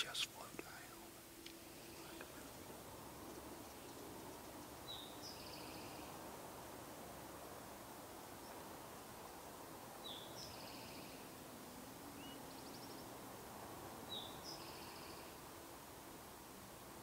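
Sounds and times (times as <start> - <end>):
faint background hiss: 0.0 - 17.0
songbird singing: 0.0 - 17.0.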